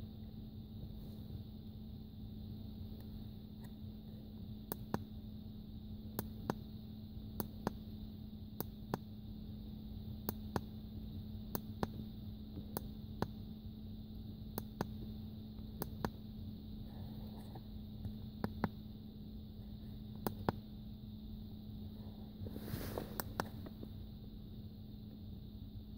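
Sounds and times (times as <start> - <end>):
steady hum: 0.0 - 25.9.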